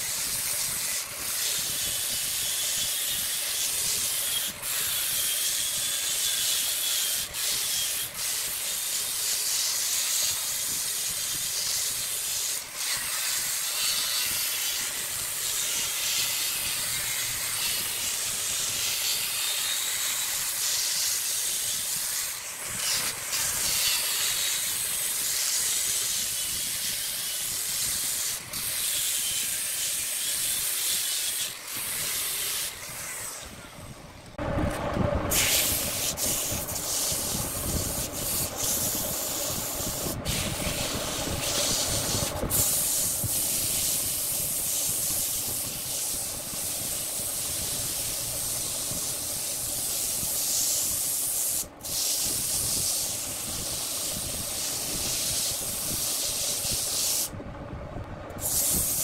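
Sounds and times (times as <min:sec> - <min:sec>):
angle grinder sanding wood: 0:00.0 - 0:34.5, 0:35.1 - 0:57.3.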